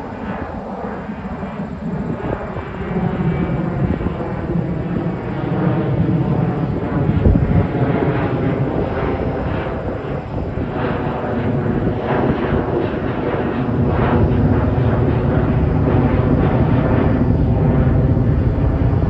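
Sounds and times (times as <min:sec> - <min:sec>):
jet airliner rumbling overhead: 0:00.0 - 0:19.0.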